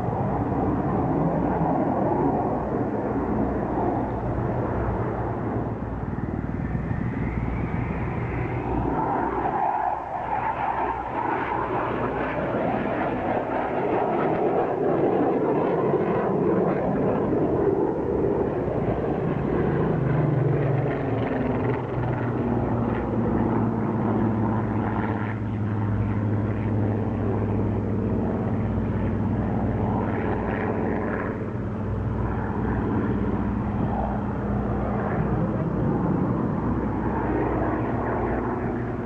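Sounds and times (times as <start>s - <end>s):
jet passing with rushing noise: 0.0s - 39.0s.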